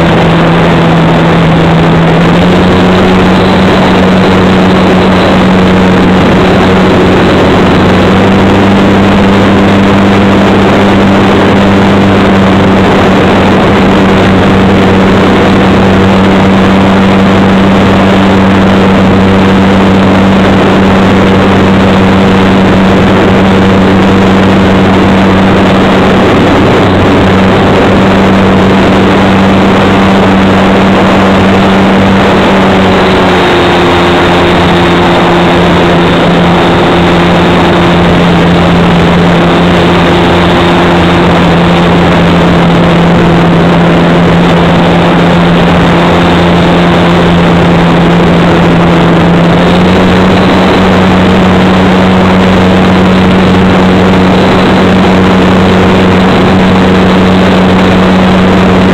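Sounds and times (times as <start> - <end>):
electric motor and propeller drone: 0.0 - 58.9
rush of noise: 0.0 - 58.9.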